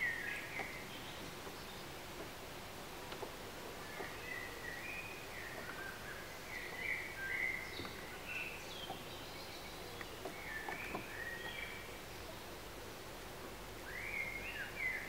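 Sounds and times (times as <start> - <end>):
faint outdoor background hiss: 0.0 - 15.0
songbirds chirping: 0.0 - 15.0.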